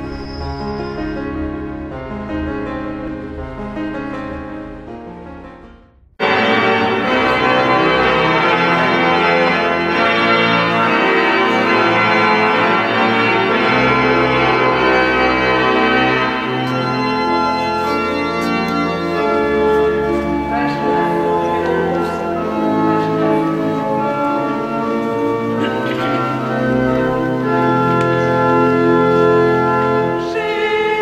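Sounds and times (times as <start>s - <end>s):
church organ chords: 0.0s - 31.0s.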